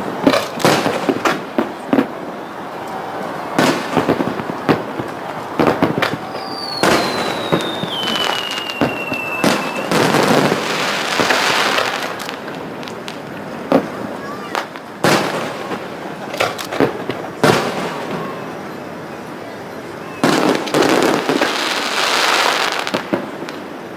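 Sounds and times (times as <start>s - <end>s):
falling firework whistle: 0.0s - 15.8s, 16.8s - 23.9s
firework bangs: 0.0s - 23.9s
firework crackling: 0.0s - 23.9s.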